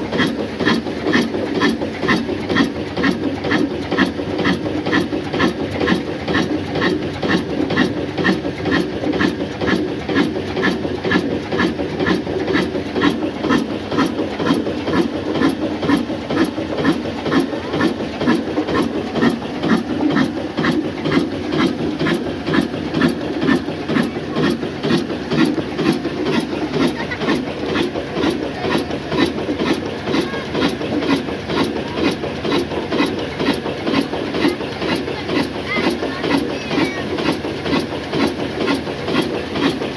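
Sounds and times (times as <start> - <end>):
diesel engine thumping exhaust: 0.0 - 39.9.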